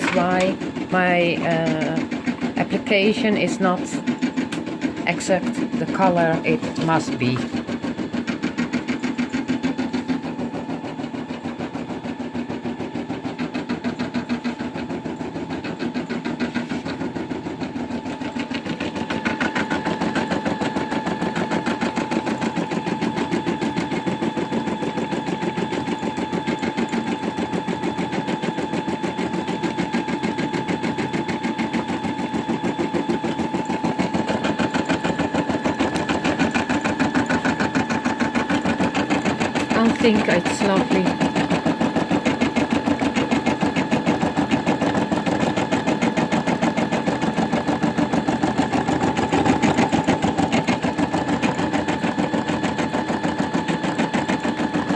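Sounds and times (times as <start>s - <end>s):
embroidery machine stitching: 0.0s - 54.9s.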